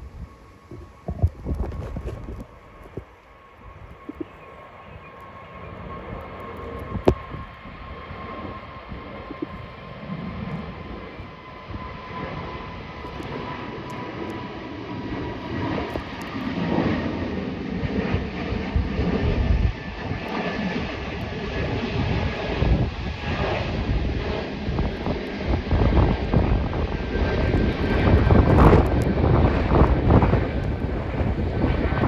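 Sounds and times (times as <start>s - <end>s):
jet engines whining at takeoff: 0.0s - 32.0s.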